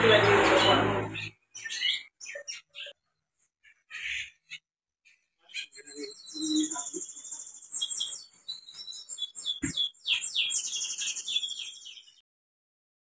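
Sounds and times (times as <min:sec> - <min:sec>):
songbird singing: 0:00.0 - 0:03.1, 0:03.7 - 0:12.2.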